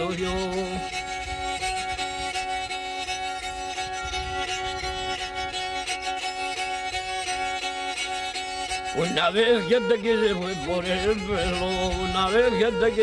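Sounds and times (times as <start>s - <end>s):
bowed folk fiddle melody: 0.0s - 13.0s.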